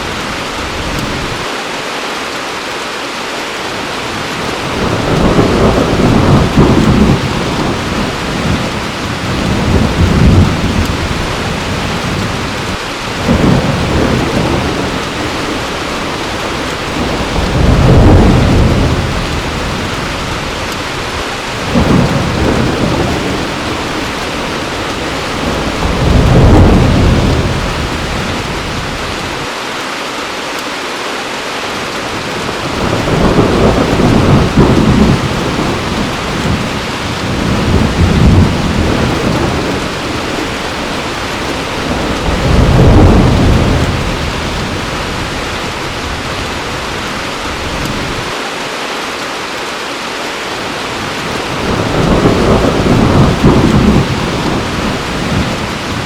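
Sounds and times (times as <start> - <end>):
heavy rain falling: 0.0 - 56.0
low rolls of thunder: 4.4 - 29.5, 32.4 - 48.4, 51.1 - 56.0.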